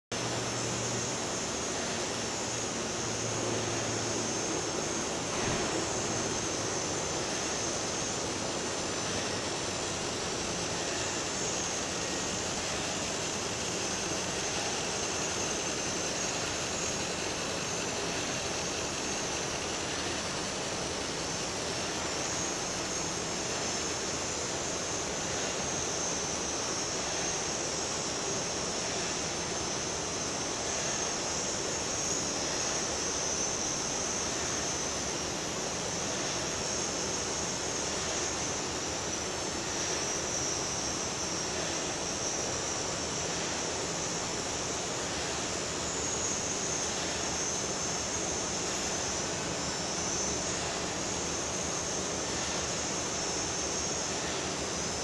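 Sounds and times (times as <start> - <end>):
steady rushing hiss: 0.1 - 55.0.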